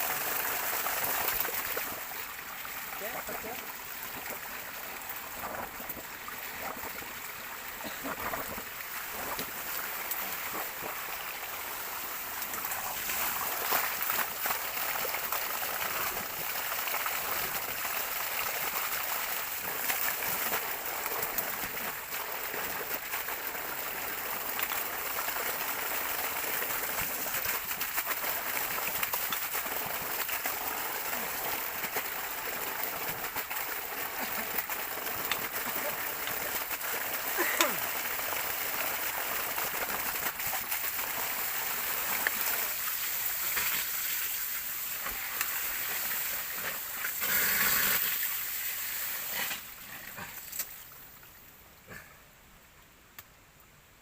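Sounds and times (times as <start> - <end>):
water rushing and trickling: 0.0 - 51.8.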